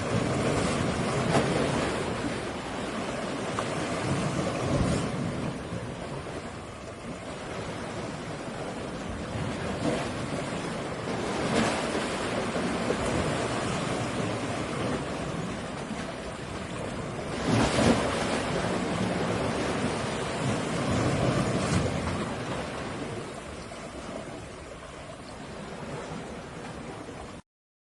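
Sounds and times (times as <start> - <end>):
sea waves washing in: 0.0 - 27.4
wave breaking: 0.0 - 27.4.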